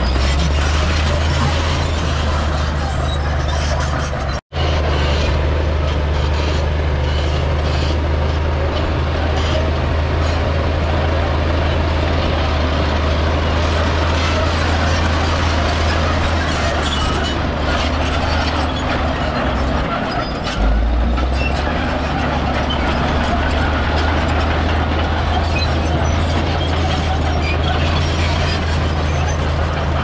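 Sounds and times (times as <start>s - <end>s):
heavy diesel engine droning: 0.0s - 30.0s.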